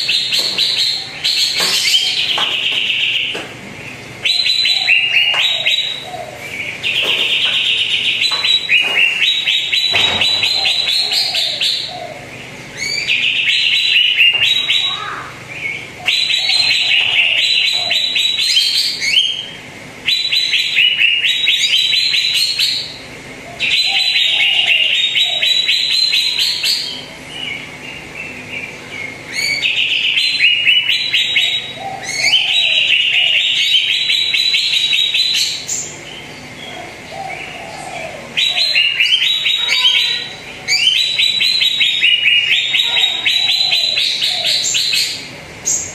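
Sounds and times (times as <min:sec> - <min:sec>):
bird song with rapid trills: 0:00.0 - 0:45.9.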